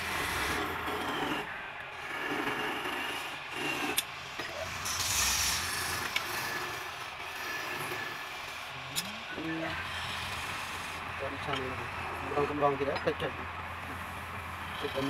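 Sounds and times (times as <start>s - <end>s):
chisel scraping wood on lathe: 0.0s - 8.8s, 9.4s - 15.0s
lathe motor humming: 0.0s - 15.0s.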